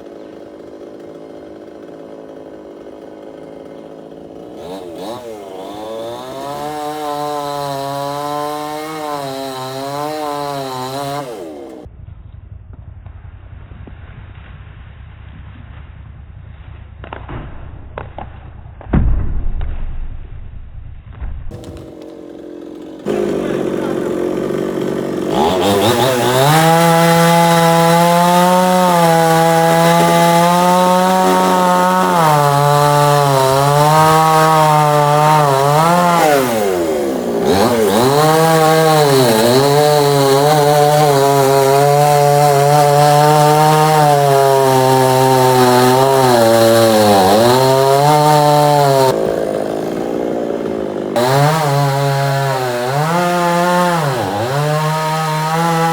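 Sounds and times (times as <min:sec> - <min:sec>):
chainsaw engine revving: 0:00.0 - 0:11.9, 0:21.5 - 0:55.9.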